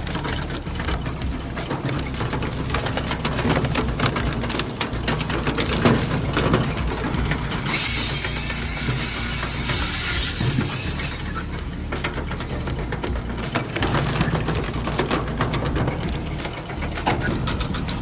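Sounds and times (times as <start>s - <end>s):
loud steady hiss: 0.0s - 18.0s
machinery clattering: 0.0s - 18.0s.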